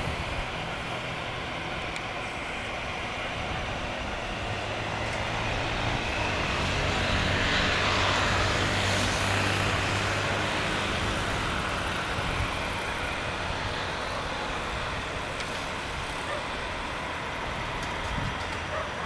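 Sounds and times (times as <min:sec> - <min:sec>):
jet engines whining: 0:00.0 - 0:18.8.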